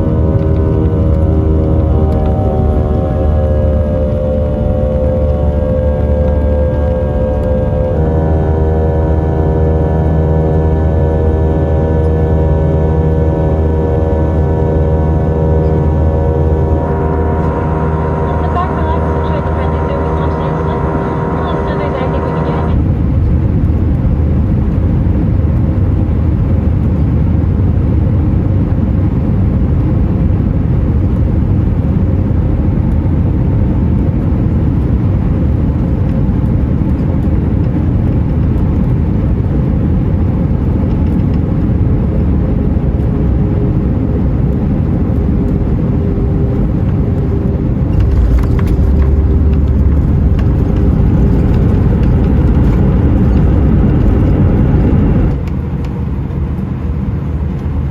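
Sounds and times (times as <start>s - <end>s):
aircraft cabin engine rumble: 0.0s - 57.9s
faint steady hum: 0.0s - 57.9s.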